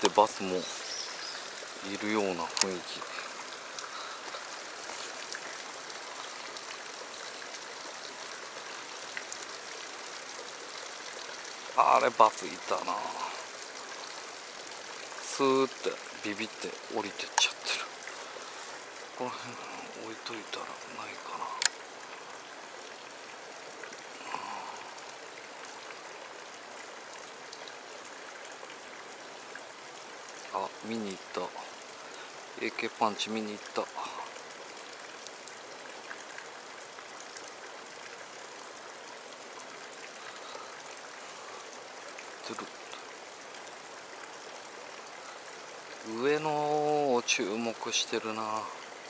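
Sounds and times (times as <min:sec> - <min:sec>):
water rushing over rock: 0:00.0 - 0:26.7, 0:28.8 - 0:49.0.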